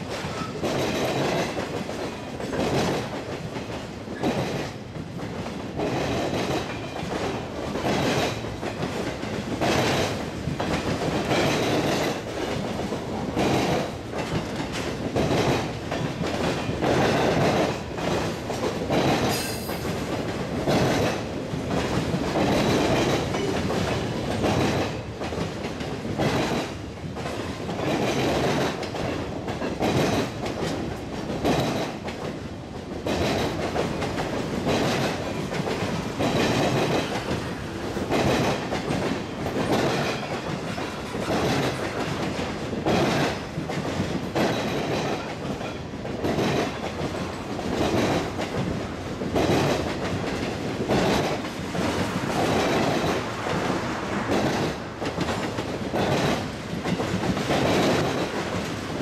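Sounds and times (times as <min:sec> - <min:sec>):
train wheels rumbling: 0:00.0 - 0:59.0
wheels clickety-clack: 0:00.0 - 0:59.0.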